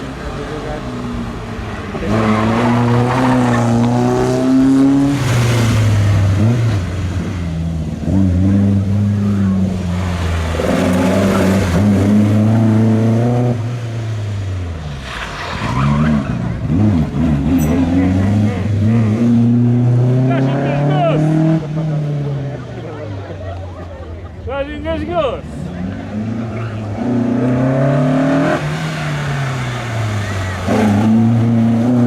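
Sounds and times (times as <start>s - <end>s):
rally car engines accelerating: 0.0s - 32.0s.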